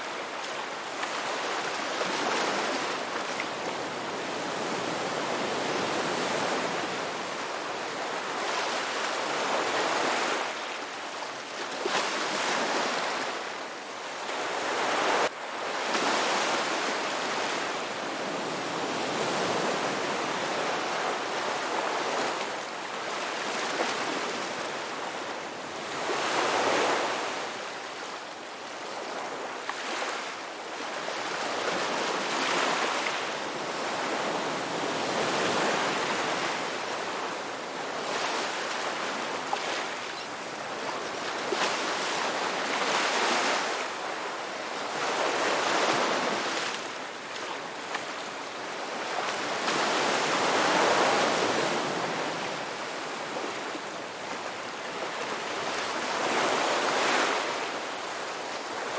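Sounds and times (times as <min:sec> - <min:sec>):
ocean waves washing ashore: 0:00.0 - 0:58.9.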